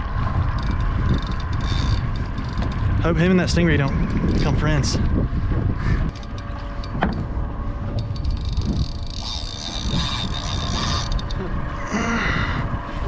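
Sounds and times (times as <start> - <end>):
boat motor running: 0.0 - 13.0
wind rumble on microphone: 0.0 - 13.0.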